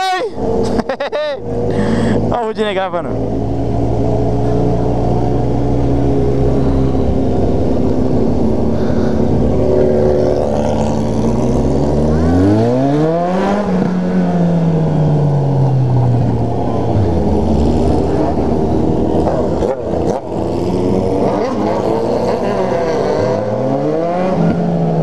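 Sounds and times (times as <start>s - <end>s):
motorcycle engine revving: 1.5s - 25.0s.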